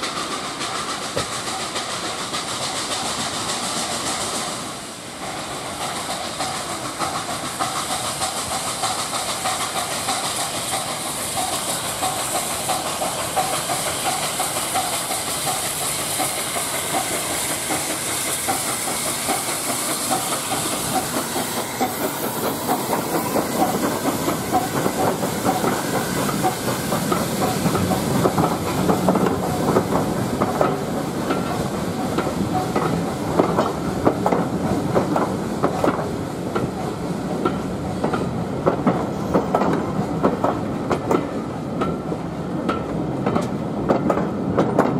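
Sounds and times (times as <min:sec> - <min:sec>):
steam hissing: 0:00.0 - 0:44.9
steam locomotive working beat: 0:00.0 - 0:44.9
train wheels clacking over rail joints: 0:00.0 - 0:44.9.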